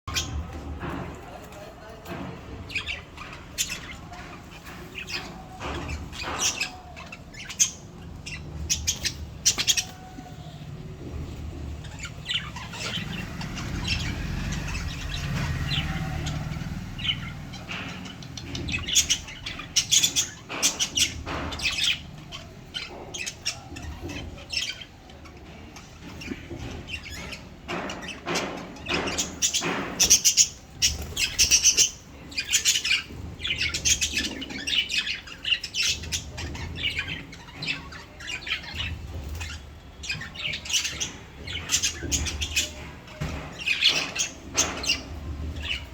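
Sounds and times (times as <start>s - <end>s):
lovebirds chirping and squawking: 0.0s - 45.9s.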